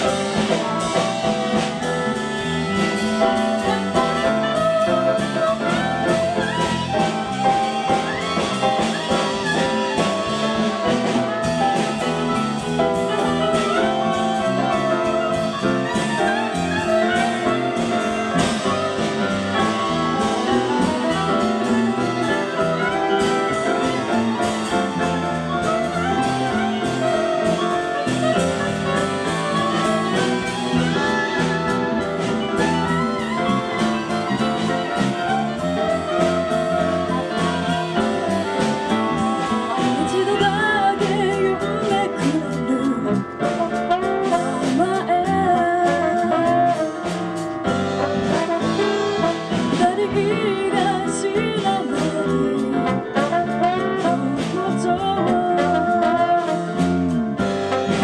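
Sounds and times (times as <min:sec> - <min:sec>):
jazz band playing: 0:00.0 - 0:58.0
saxophone melody: 0:00.0 - 0:58.0.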